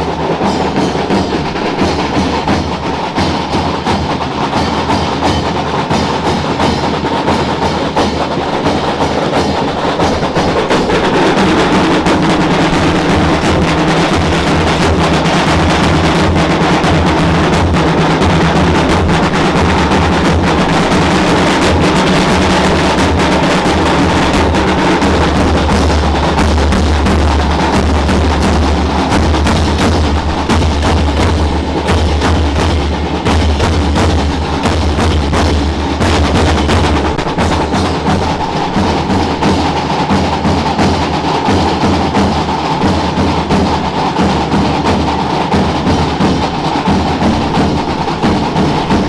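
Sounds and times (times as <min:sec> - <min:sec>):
bass drums and snare drum: 0:00.0 - 0:49.0.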